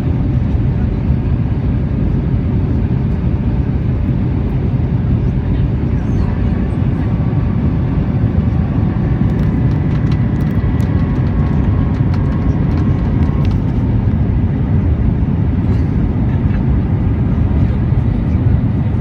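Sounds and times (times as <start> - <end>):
deep rumble of engines and air: 0.0 - 19.0.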